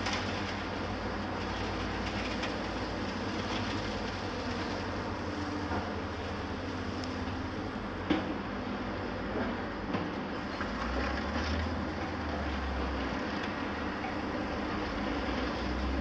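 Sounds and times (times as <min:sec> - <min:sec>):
diesel excavators working: 0:00.0 - 0:16.0
mobile crusher rumbling: 0:00.0 - 0:16.0.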